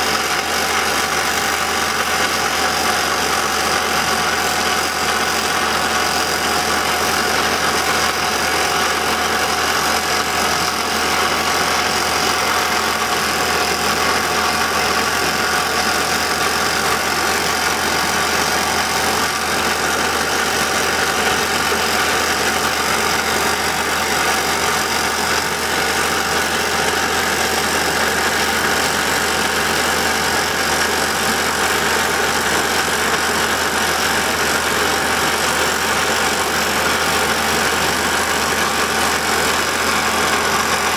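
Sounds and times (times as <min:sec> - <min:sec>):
drilling rig engine running: 0:00.0 - 0:40.9
rock drill hammering: 0:00.0 - 0:40.9.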